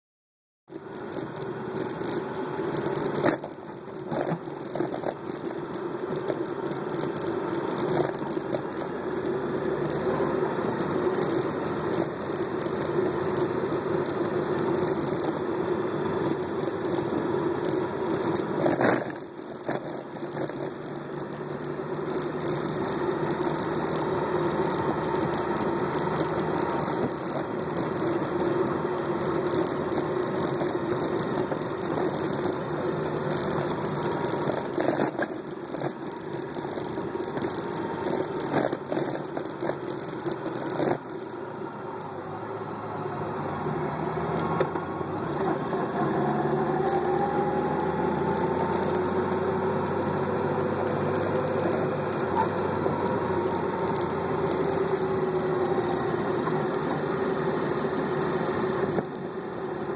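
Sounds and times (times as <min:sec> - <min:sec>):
car engine and road noise: 0:00.7 - 0:59.9.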